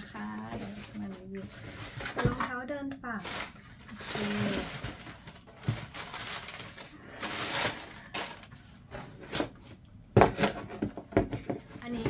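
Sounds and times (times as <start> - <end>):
paper and cardboard rustling: 0.0 - 12.0.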